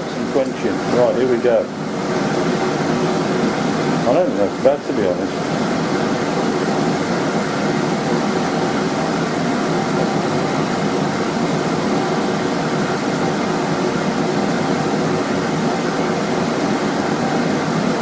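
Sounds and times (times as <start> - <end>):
forge blower rushing: 0.0 - 18.0.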